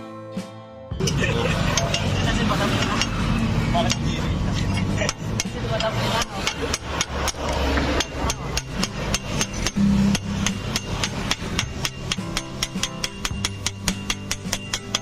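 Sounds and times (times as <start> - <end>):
hammer striking metal: 0.9 - 15.0.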